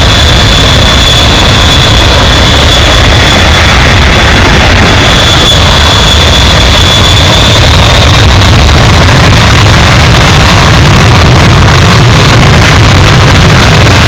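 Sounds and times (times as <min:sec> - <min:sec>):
high jet engine whine: 0:00.0 - 0:14.0
jet engines rumble and hiss: 0:00.0 - 0:14.0.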